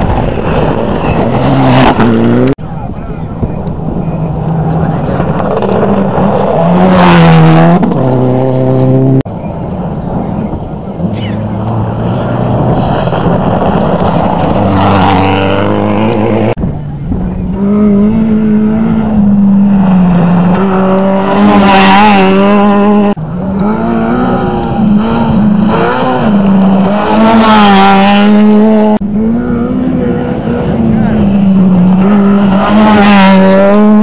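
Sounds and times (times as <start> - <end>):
rally car engines revving: 0.0 - 34.0.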